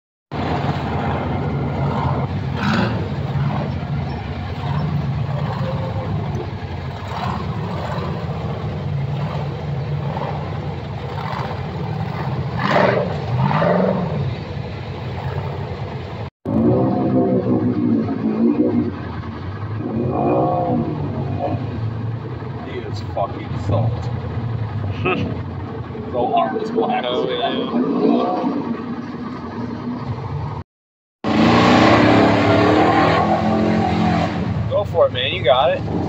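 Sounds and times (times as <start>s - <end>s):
buggy engine revving: 0.4s - 30.6s, 31.2s - 36.0s.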